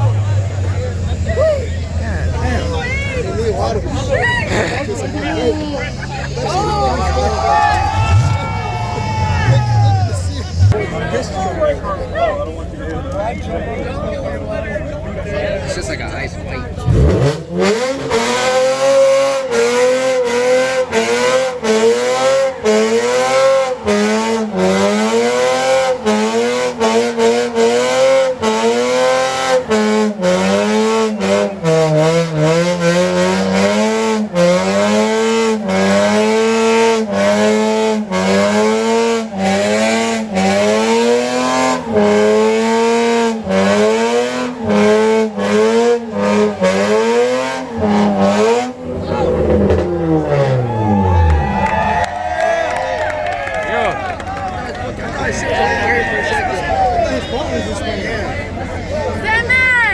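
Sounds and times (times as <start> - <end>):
car engine on rev limiter: 0.0 - 59.5.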